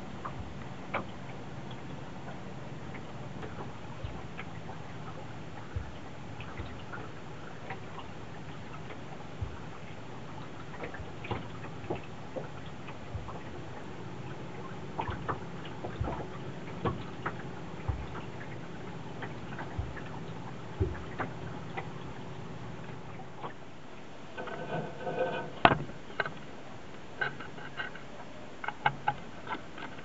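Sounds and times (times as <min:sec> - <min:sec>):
steady low rumble: 0:00.0 - 0:27.7
light knocks and ticks on sailboat: 0:00.0 - 0:30.0.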